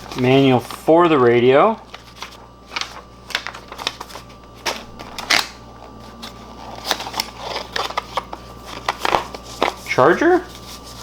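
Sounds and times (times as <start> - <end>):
low room hum: 0.0 - 11.0
packaging rustling: 0.0 - 11.0.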